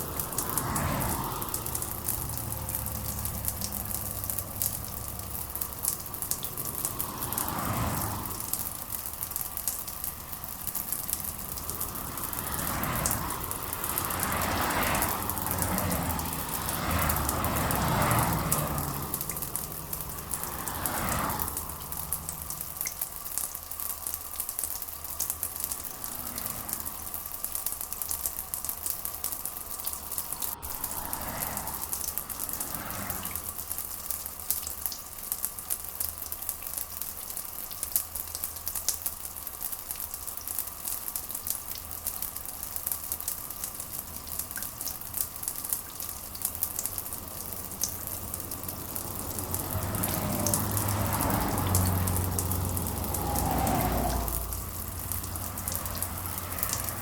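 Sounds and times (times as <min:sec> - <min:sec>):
rain patter: 0:00.0 - 0:57.0.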